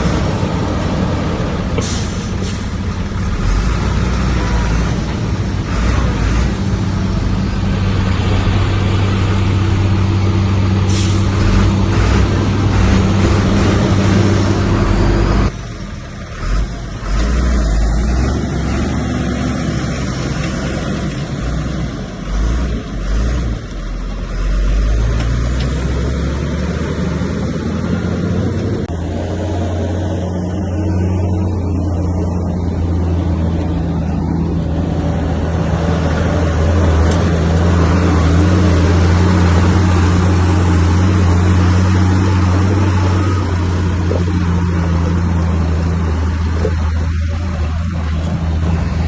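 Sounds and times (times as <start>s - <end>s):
bulldozer diesel engine: 0.0s - 49.0s.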